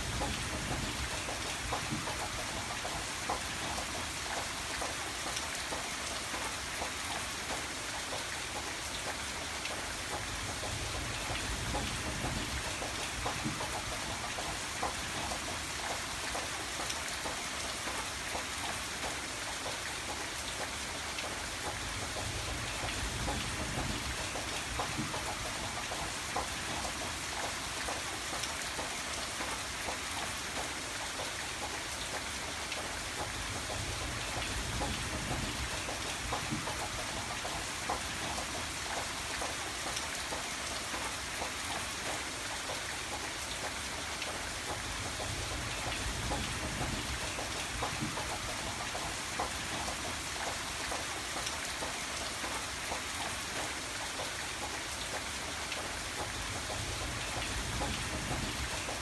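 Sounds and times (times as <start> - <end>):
rain hiss: 0.0 - 59.0
raindrops ticking on a surface: 0.0 - 59.0.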